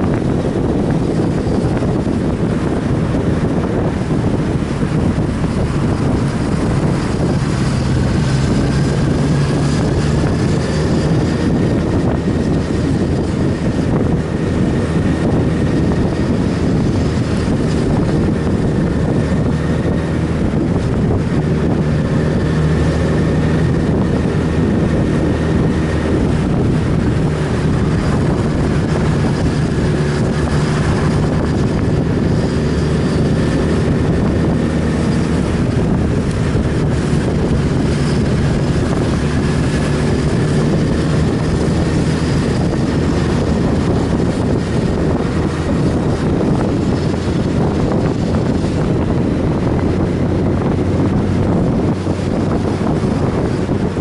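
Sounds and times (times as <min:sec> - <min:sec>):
motorcycle engine running: 0:00.0 - 0:54.0
wind over microphone: 0:00.0 - 0:54.0.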